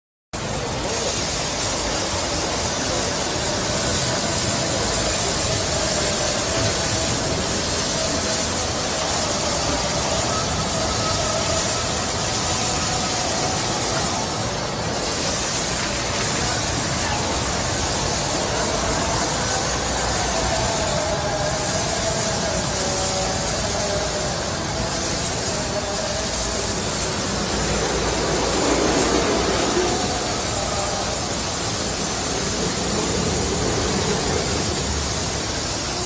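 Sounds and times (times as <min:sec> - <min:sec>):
water spray hissing: 0:00.4 - 0:36.0.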